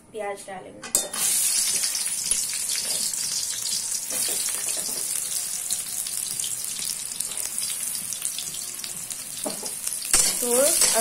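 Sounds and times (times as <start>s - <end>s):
onions sizzling in hot oil: 1.1s - 11.0s.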